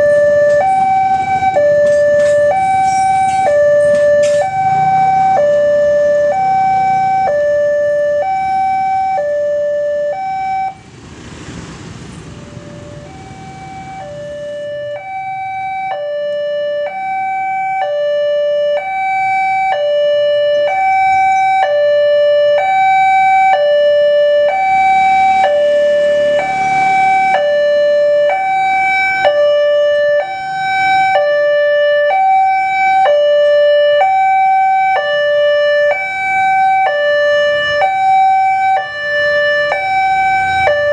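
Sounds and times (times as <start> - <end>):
level crossing two-tone alarm: 0.0 - 10.8, 12.5 - 40.9.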